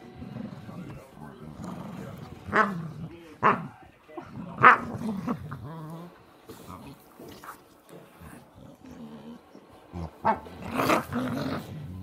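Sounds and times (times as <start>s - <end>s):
dogs play-growling: 0.0s - 12.0s.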